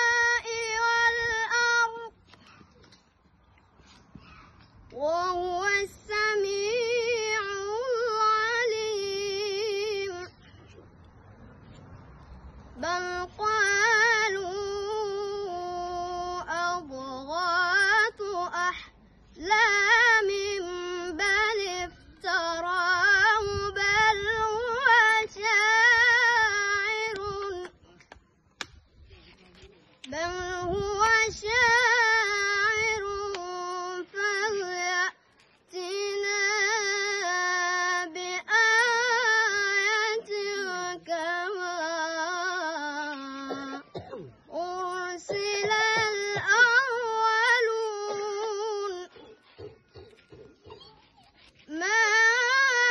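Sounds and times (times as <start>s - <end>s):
boy chanting melodically: 0.0s - 2.8s, 4.2s - 10.7s, 12.6s - 28.0s, 30.0s - 50.7s, 51.6s - 52.9s.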